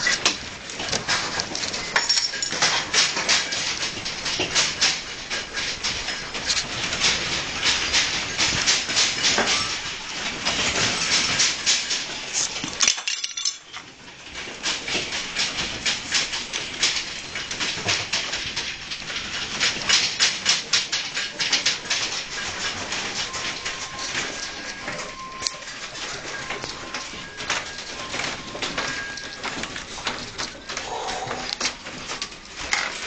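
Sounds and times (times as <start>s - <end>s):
household objects rattling: 0.0s - 33.0s.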